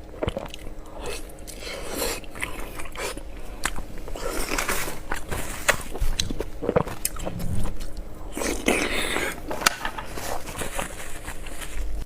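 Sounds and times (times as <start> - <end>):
chewing and biting food: 0.0 - 12.0.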